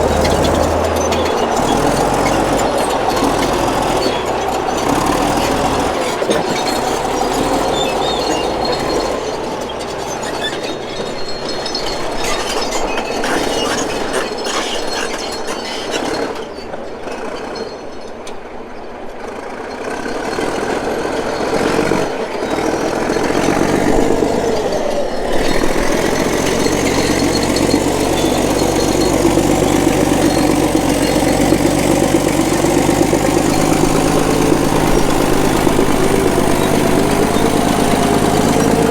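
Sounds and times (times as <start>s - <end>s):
heavy diesel machinery running: 0.0s - 14.3s, 19.2s - 38.9s
metallic squealing: 0.0s - 18.2s, 19.6s - 38.9s.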